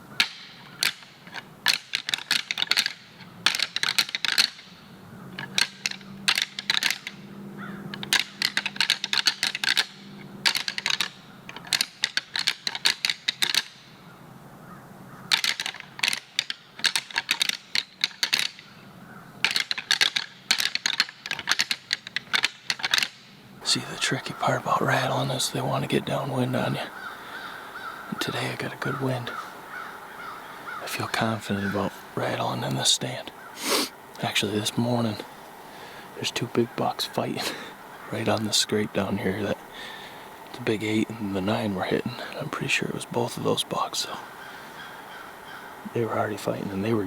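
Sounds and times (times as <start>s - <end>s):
rattling antlers clashing: 0.0s - 47.0s.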